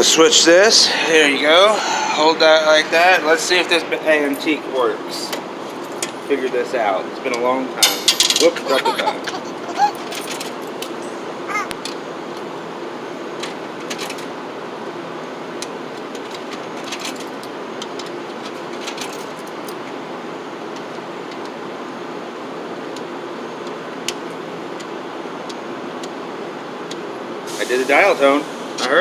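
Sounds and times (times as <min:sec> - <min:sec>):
outdoor background hum: 0:00.0 - 0:29.0.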